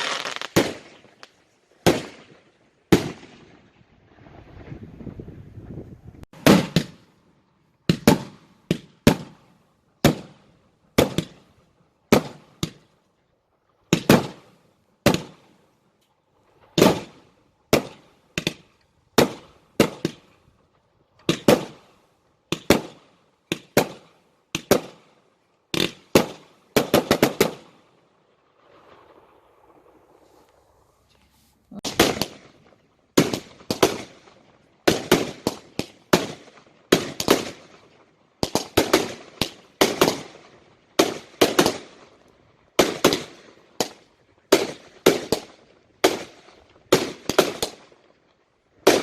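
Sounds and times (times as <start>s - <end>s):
fireworks bangs: 0.0s - 13.0s, 13.8s - 15.6s, 16.4s - 48.1s, 48.8s - 49.0s.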